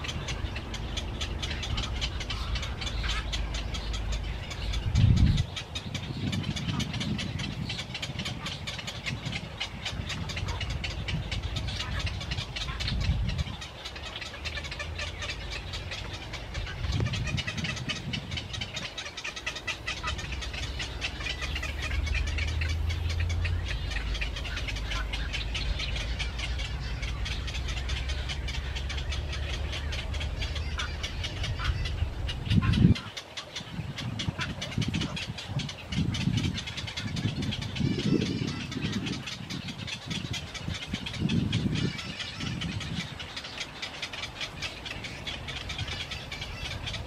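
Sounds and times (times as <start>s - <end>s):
birds chattering and squabbling: 0.0s - 47.0s.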